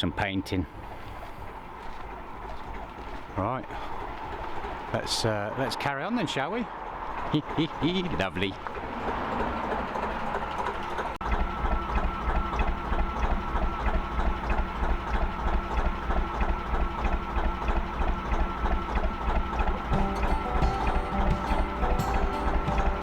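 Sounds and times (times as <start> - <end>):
boat diesel engine thumping: 0.0 - 5.6, 6.8 - 23.0.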